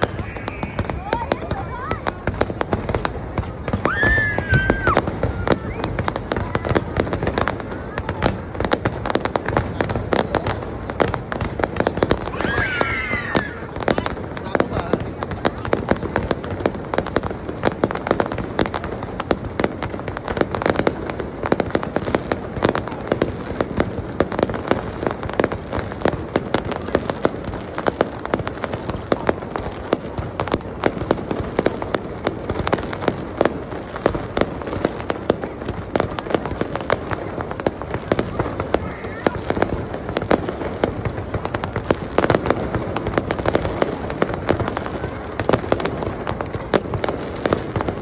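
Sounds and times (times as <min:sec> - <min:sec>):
fireworks cracks and bangs: 0:00.0 - 0:48.0.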